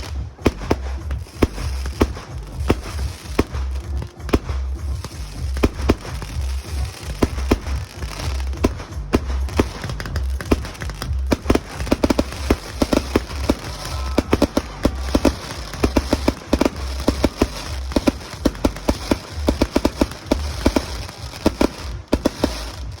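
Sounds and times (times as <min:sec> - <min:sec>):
fireworks bangs and crackling pops: 0:00.0 - 0:23.0
low rumble: 0:00.0 - 0:23.0.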